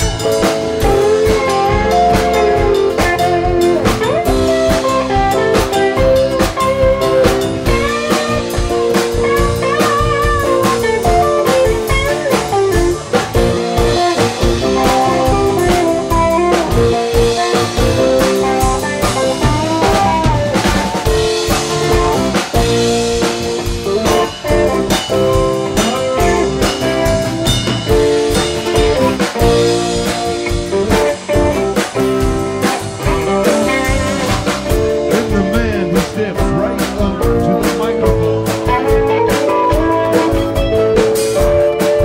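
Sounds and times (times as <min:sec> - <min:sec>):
drum kit: 0:00.0 - 0:42.0
electric guitar solo: 0:00.0 - 0:42.0
held keyboard chords: 0:00.0 - 0:42.0.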